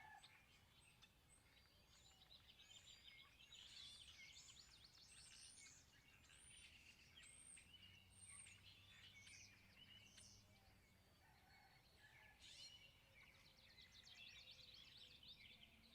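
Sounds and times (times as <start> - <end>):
songbirds singing faintly: 0.0 - 15.9.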